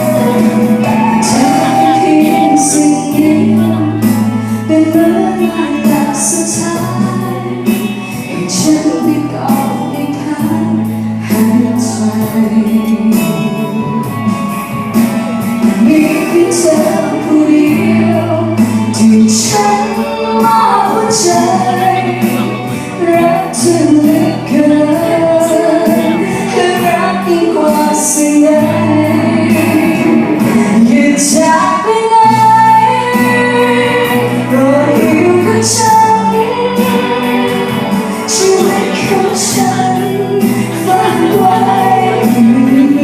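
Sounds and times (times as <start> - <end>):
bass: 0.0 - 43.0
woman singing pop ballad: 0.0 - 43.0.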